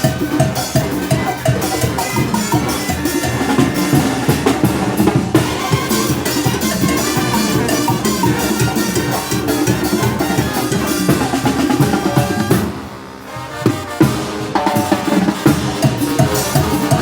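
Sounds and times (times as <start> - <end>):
brass band playing: 0.0 - 17.0
drums beating: 0.0 - 17.0.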